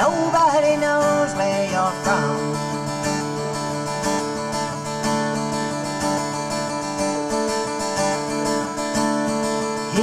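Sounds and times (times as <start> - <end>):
acoustic guitar picked chords: 0.0 - 10.0.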